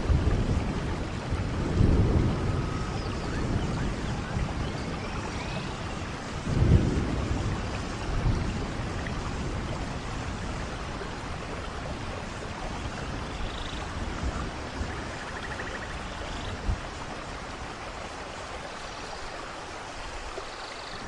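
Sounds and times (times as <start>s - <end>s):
low rumble of thunder: 0.0s - 18.2s
steady hiss of rain: 0.0s - 21.0s.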